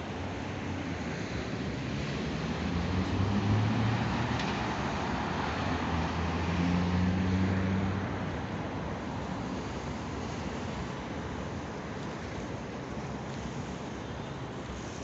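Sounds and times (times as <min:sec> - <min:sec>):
road traffic roar: 0:00.0 - 0:15.0
vehicles passing by: 0:00.0 - 0:15.0.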